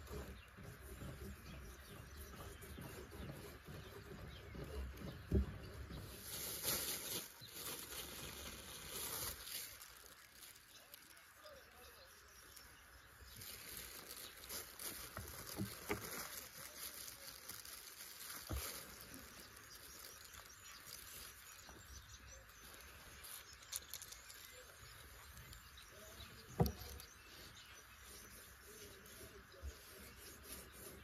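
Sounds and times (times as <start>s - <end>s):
faint outdoor hiss: 0.0s - 31.0s.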